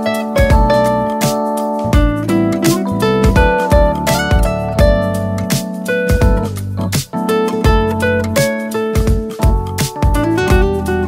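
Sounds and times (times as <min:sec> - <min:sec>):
plucked guitar instrumental: 0:00.0 - 0:11.0.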